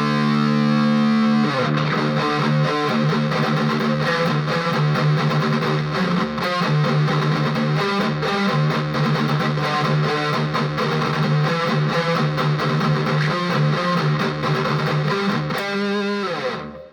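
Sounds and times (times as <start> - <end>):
distorted electric guitar riff: 0.0 - 16.9.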